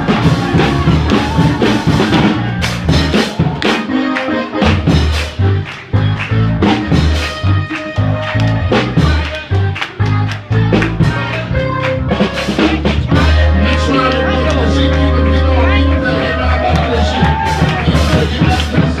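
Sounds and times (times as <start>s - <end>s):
bass line: 0.0s - 19.0s
drum kit fast rhythm: 0.0s - 19.0s
live band music: 0.0s - 19.0s.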